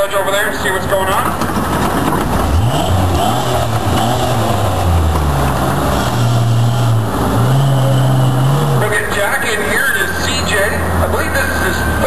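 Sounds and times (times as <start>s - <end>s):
truck engine revving: 0.6s - 12.0s.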